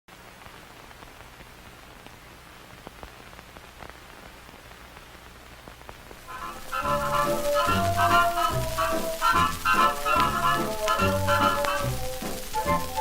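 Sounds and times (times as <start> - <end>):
faint steady hiss: 0.1 - 13.0
small irregular clicks and crackles: 0.1 - 13.0.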